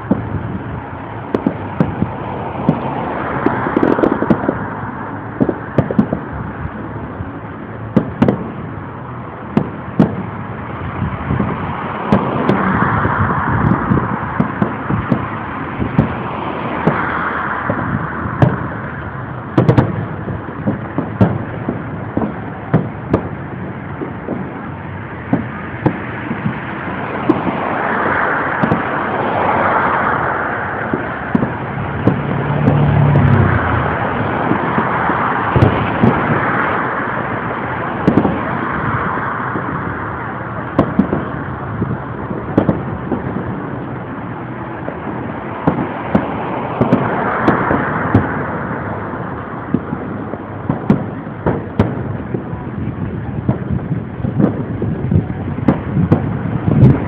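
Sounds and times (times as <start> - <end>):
fireworks bangs and booms: 0.0 - 57.0
rumbling crackling fireworks wash: 0.0 - 57.0.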